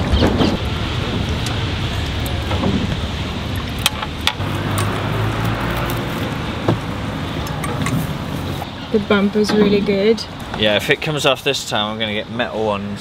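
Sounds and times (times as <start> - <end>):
steady outdoor rumble and hiss: 0.0 - 13.0.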